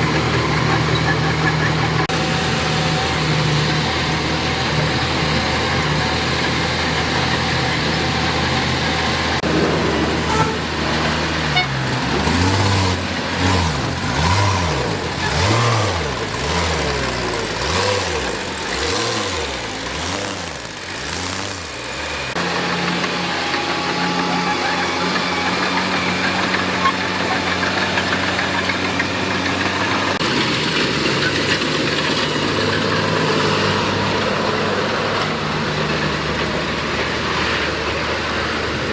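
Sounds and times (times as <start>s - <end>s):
engine knocks: 0.0s - 38.9s
heavy diesel engine running: 0.0s - 38.9s.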